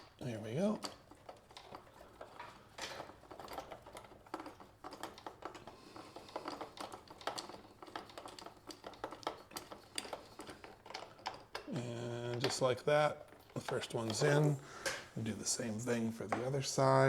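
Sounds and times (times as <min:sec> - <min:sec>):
hand tools clicking and tapping: 0:00.0 - 0:15.2, 0:16.1 - 0:16.7.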